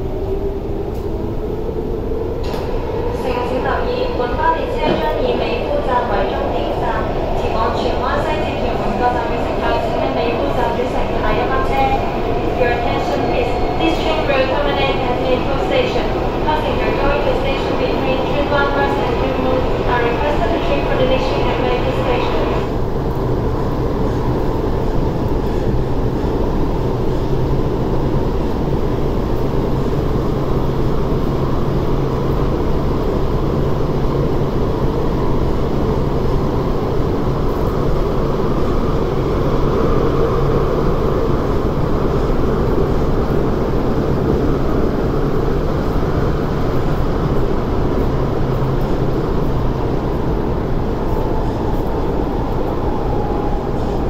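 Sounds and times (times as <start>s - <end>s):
electric train low hum: 0.0s - 54.0s
rumble of wheels on rail: 0.0s - 54.0s.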